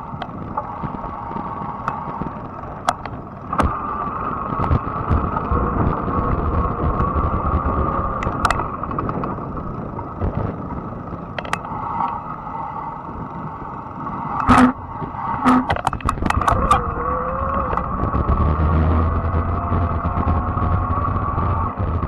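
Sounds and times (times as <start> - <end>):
electric motor whine: 0.0 - 22.0
tyre and wind rumble: 0.0 - 22.0.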